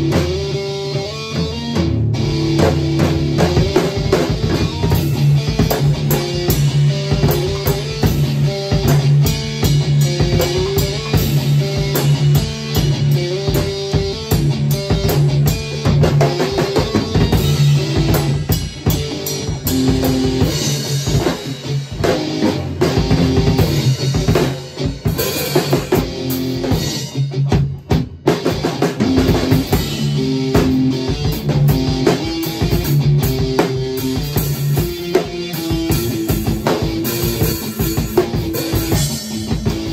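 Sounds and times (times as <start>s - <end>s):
drum beat with cymbals: 0.0s - 39.9s
electric guitar riff: 0.0s - 39.9s.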